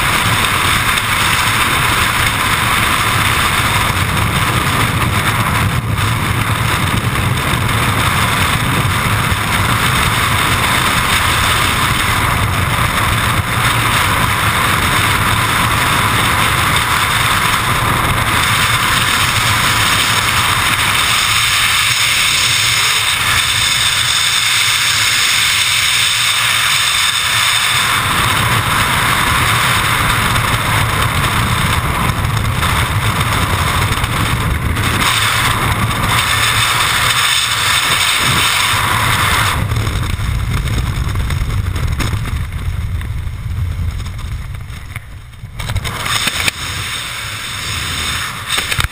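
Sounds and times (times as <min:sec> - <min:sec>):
freefall wind rushing: 0:00.0 - 0:48.9.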